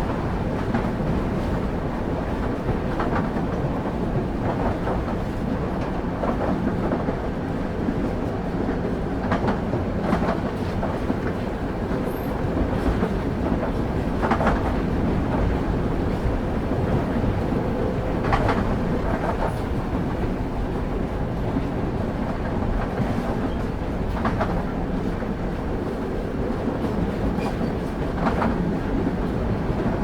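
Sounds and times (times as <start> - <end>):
train wheels rumbling on track: 0.0 - 30.0
wheels clickety-clack over rail joints: 0.0 - 30.0.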